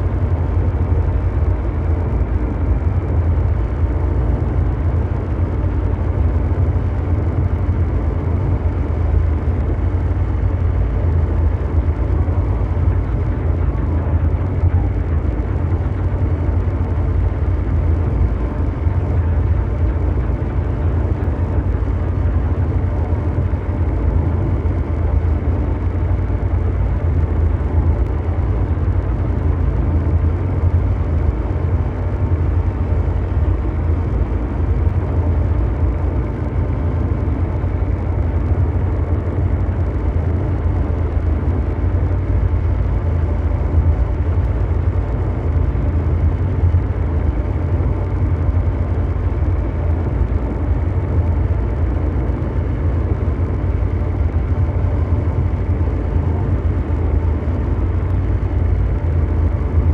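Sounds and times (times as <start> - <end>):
mechanical drone: 0.0 - 59.9.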